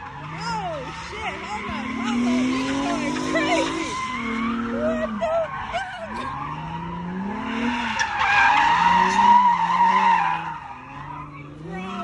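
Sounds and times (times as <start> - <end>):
car engine revving: 0.0 - 12.0
tires squealing: 0.0 - 12.0.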